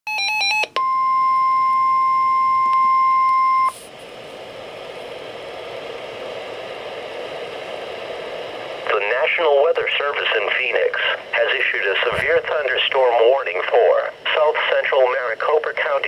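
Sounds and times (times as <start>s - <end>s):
receiver hiss: 2.6s - 16.0s.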